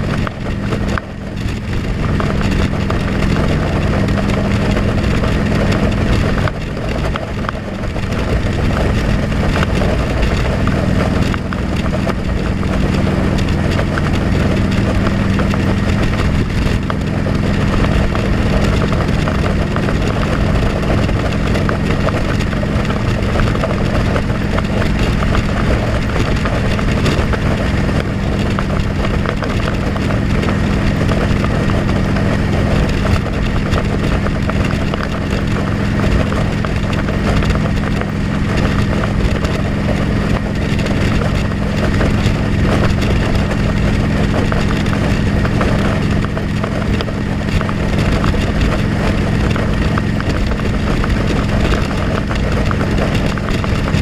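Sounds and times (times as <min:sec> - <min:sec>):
dense rushing wind noise: 0:00.0 - 0:54.0
motorcycle engine running: 0:00.0 - 0:54.0.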